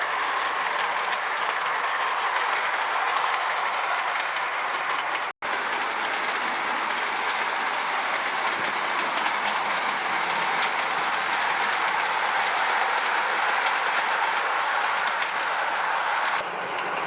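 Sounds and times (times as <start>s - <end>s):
model train motor whirring: 0.0s - 16.4s
wheels clicking over rail joints: 0.0s - 17.0s.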